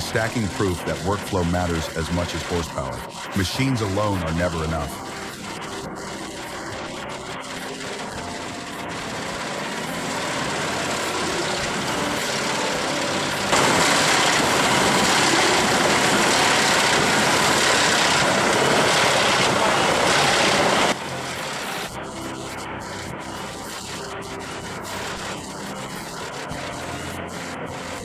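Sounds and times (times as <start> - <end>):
heavy machinery engine running: 0.0 - 28.0.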